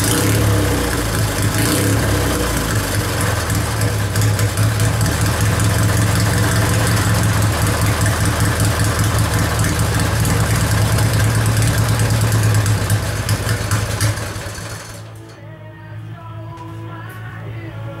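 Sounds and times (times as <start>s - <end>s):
lawn mower engine idling: 0.0s - 15.3s.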